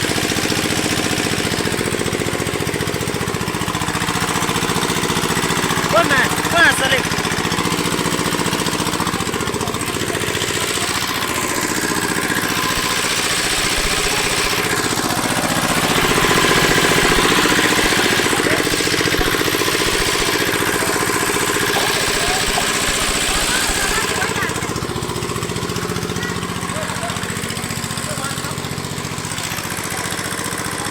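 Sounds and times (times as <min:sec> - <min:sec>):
small engine running: 0:00.0 - 0:30.9.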